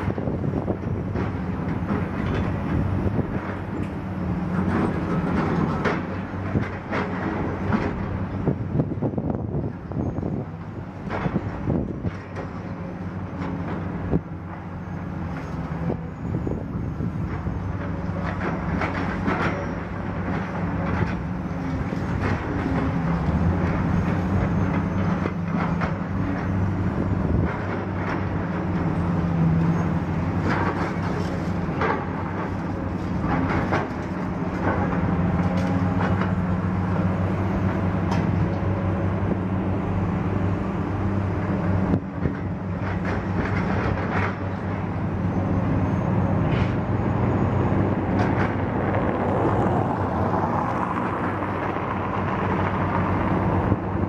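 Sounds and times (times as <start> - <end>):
heavy vehicle engines droning: 0.0 - 54.0.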